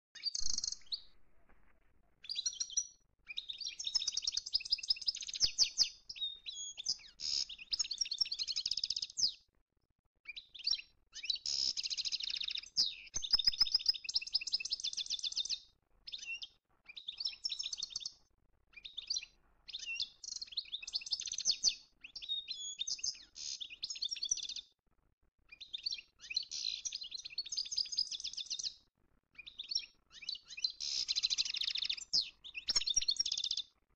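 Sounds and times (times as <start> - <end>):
songbird twittering and trilling: 0.2 - 1.4, 2.2 - 9.5, 10.2 - 24.8, 25.4 - 33.8.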